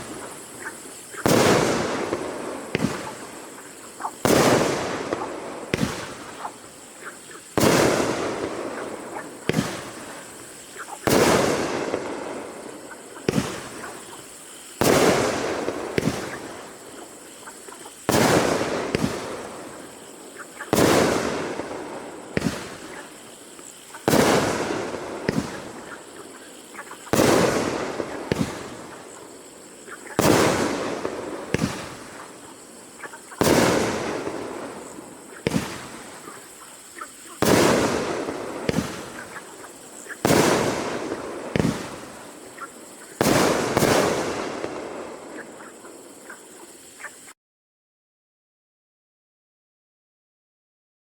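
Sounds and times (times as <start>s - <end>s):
sharp firework crack: 0.0s - 47.0s
loud firework bursts: 0.0s - 47.3s.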